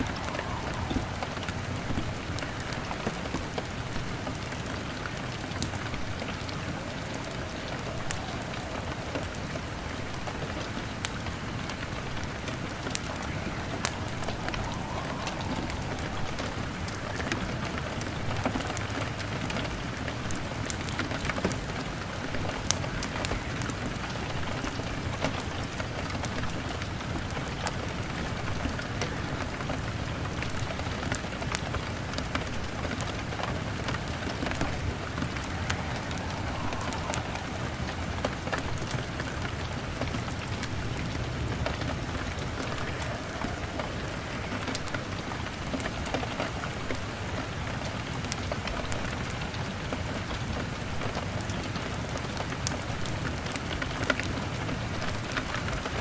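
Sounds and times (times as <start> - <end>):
wood fire crackling: 0.0 - 49.4
rain pattering on a window: 0.0 - 56.0.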